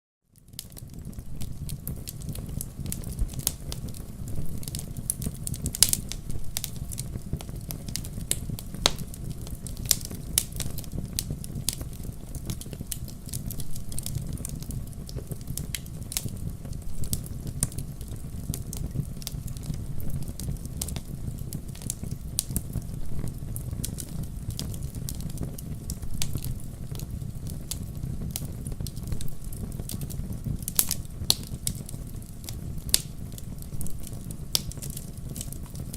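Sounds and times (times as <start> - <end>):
fire crackling and popping: 0.3 - 35.9
fire rumbling: 0.3 - 35.9.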